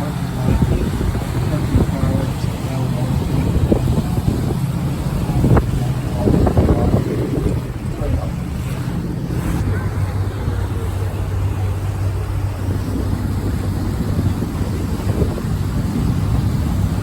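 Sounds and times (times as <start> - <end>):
boat engine humming: 0.0 - 17.0
water rushing: 0.0 - 17.0
wind on microphone: 0.0 - 17.0.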